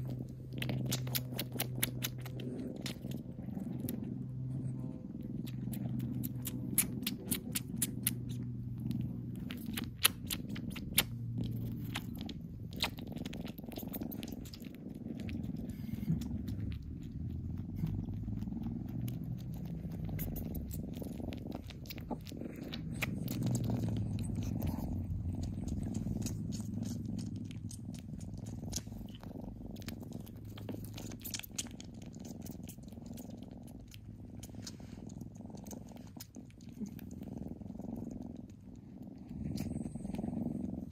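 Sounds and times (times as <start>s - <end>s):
kitten purring: 0.0s - 40.9s.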